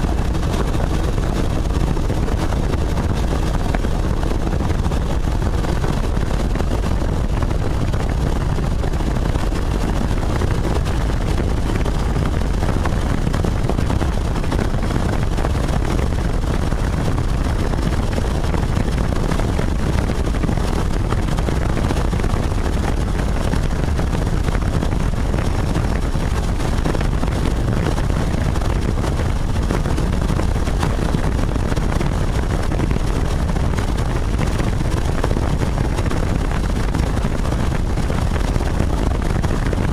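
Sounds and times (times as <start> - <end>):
helicopter engine and rotor: 0.0 - 39.7.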